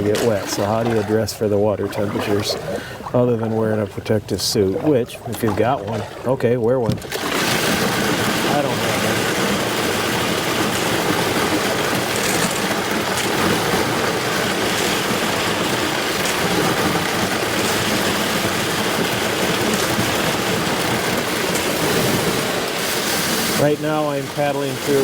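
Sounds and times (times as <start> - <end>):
ice slush scraping along canoe hull: 0.0 - 25.0.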